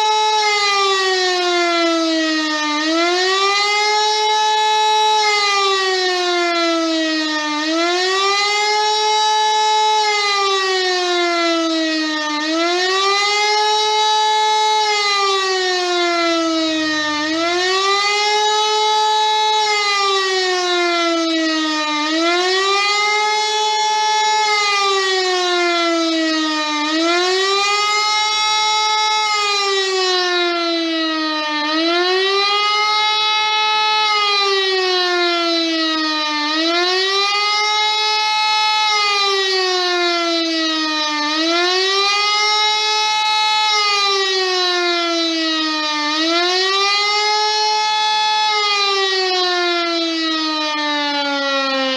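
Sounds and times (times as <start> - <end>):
rising and falling warning siren: 0.0 - 51.9.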